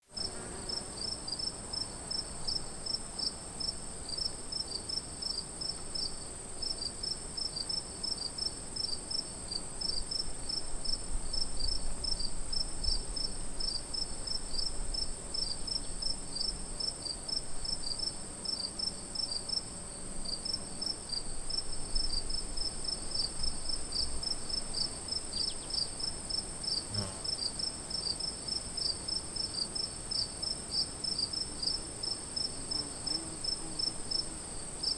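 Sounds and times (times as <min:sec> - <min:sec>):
crickets chirping: 0:00.2 - 0:34.9.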